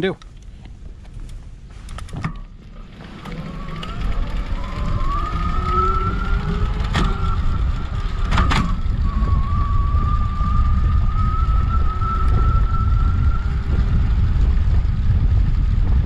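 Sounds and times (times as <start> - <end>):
wind noise on microphone: 0.0 - 16.0
electric bike motor whining: 2.5 - 16.0.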